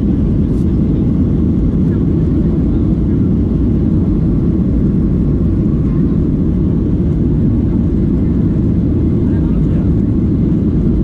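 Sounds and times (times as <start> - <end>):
jet cabin low rumble: 0.0 - 11.0.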